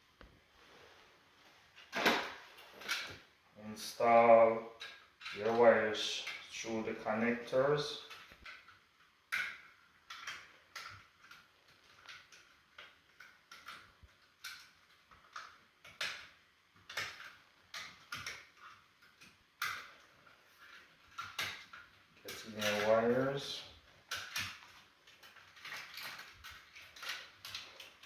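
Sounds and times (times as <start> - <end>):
wires clicking in plastic junction box: 4.8 - 6.6, 7.2 - 28.0.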